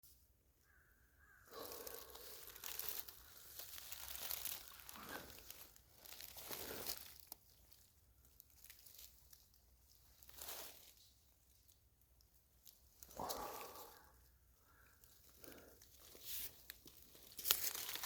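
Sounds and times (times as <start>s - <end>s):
rustling and crackling leaves: 1.2s - 18.0s.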